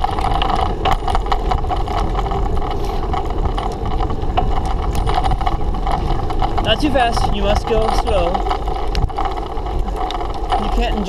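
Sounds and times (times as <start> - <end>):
bicycle rolling rumble: 0.0 - 11.0
small clicks and rattles: 0.0 - 11.0.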